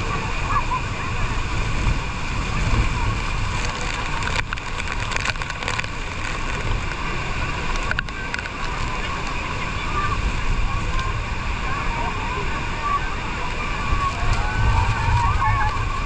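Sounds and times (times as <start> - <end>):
rushing water: 0.0 - 16.0
wind: 0.0 - 16.0.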